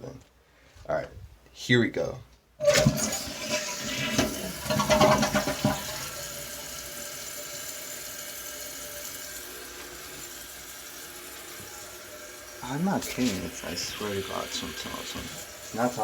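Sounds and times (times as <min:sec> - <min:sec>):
toilet flush water rushing: 0:02.6 - 0:16.0
tank refilling hiss: 0:02.7 - 0:16.0.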